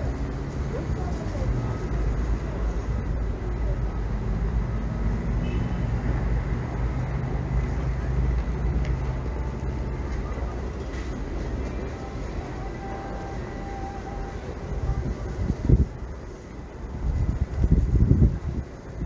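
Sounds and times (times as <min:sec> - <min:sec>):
street traffic: 0:00.0 - 0:19.0
vehicle engine rumbling: 0:00.0 - 0:19.0.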